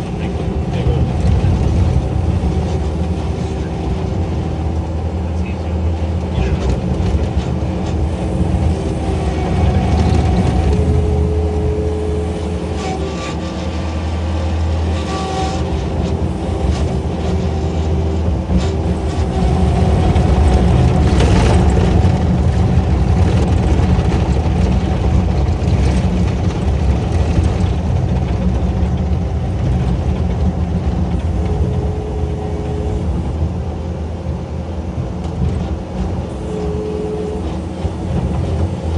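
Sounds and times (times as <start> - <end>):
heavy engine running: 0.0 - 38.9.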